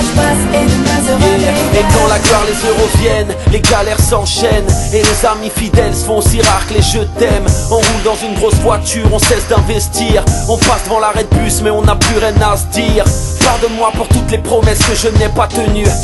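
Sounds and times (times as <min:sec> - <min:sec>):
hip hop music with beat: 0:00.0 - 0:16.0.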